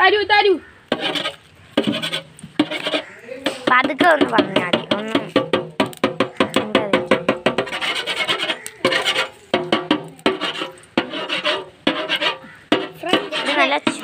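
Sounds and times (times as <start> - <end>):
spoon scraping pot bottom: 0.9 - 14.0.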